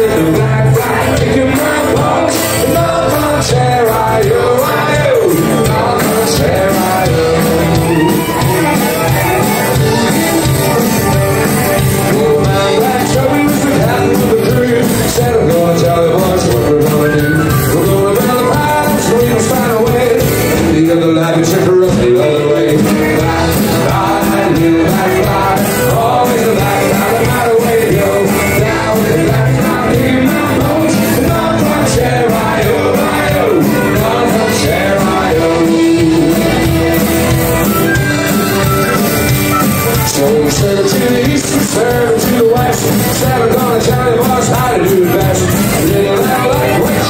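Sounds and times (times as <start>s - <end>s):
folk-rock band playing: 0.0s - 47.0s
person singing: 0.0s - 47.0s.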